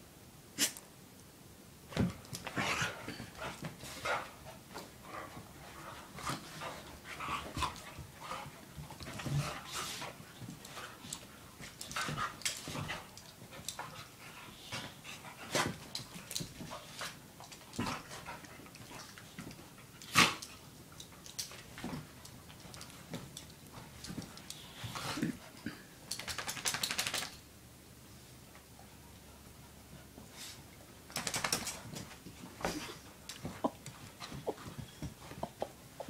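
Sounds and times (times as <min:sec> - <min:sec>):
dogs scuffling: 0:01.9 - 0:27.4, 0:30.2 - 0:36.0.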